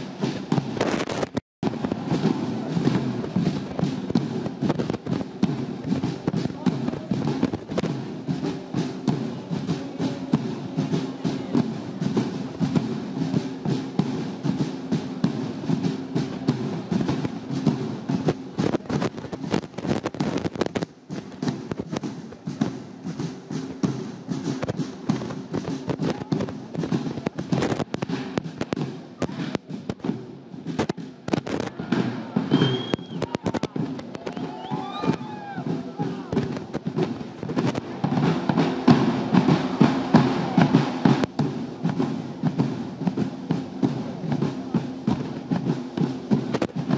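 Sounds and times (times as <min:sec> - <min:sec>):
marching drum band: 0:00.0 - 0:46.9.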